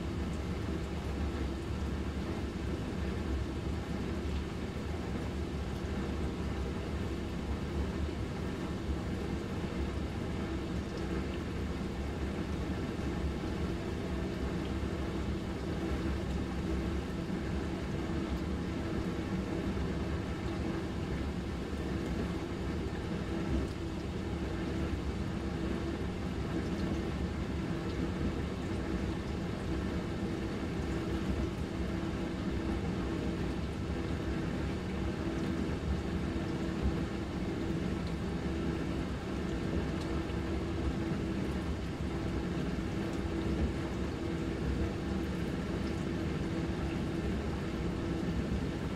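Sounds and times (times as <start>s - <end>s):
dishwasher motor hum: 0.0s - 48.9s.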